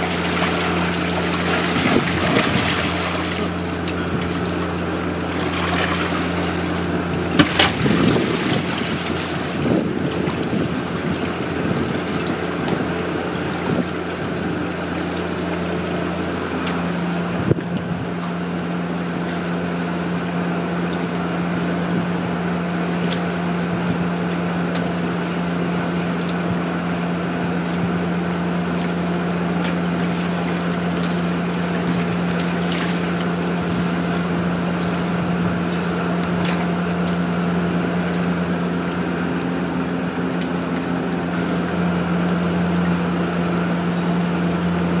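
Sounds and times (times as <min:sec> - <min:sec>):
low motor hum: 0:00.0 - 0:45.0
water sloshing and splashing: 0:00.0 - 0:45.0.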